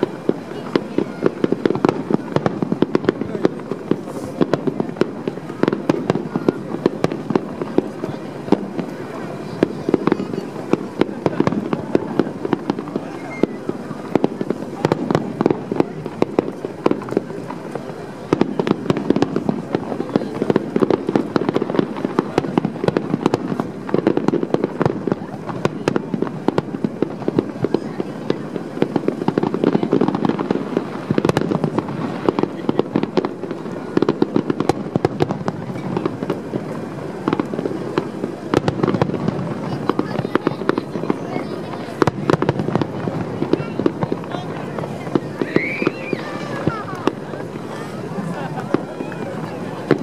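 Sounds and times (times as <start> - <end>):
fireworks bangs and cracks: 0.0 - 50.0.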